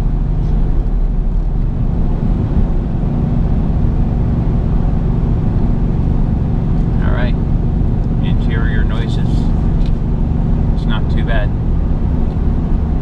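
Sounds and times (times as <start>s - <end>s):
engine and exhaust drone: 0.0s - 13.0s.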